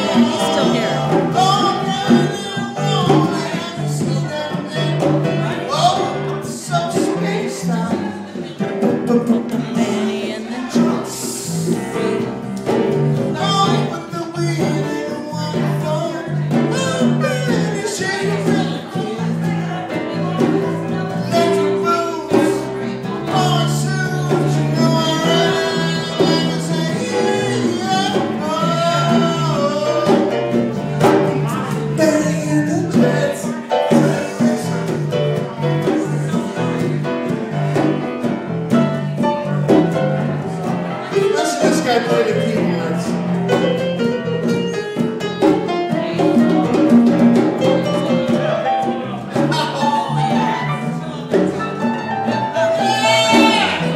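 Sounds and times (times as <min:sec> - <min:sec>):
congas: 0:00.0 - 0:53.9
guitar: 0:00.0 - 0:53.9
person singing: 0:00.0 - 0:53.9.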